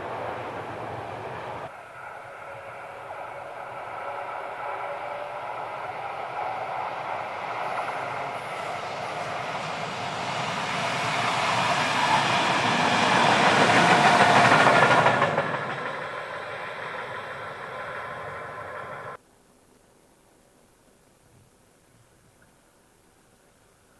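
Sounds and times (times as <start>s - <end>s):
train passing: 0.0s - 19.2s.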